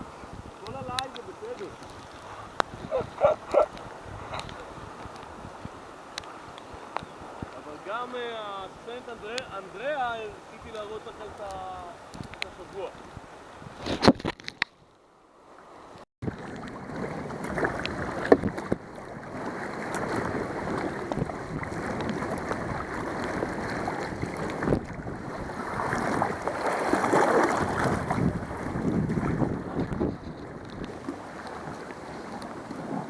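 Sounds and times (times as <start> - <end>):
wind on microphone: 0.0 - 8.0, 10.5 - 14.9, 16.2 - 33.0
water splashing around kayak: 0.0 - 33.0.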